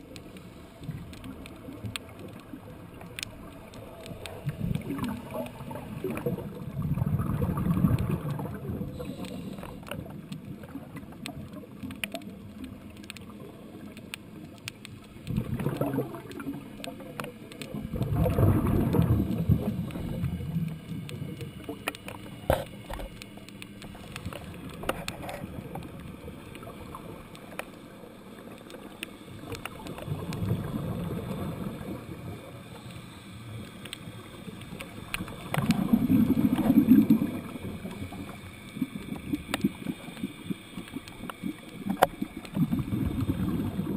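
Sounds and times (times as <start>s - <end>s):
faint clicks: 0.0s - 43.9s
underwater bubbles gurgling: 0.0s - 43.9s.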